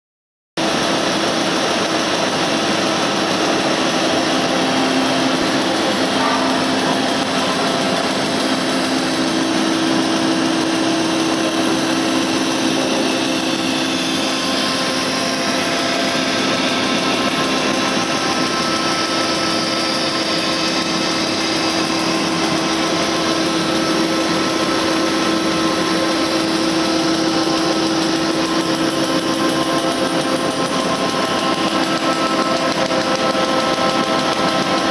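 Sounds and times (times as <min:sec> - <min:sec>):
printing machine whirring: 0:00.6 - 0:34.9.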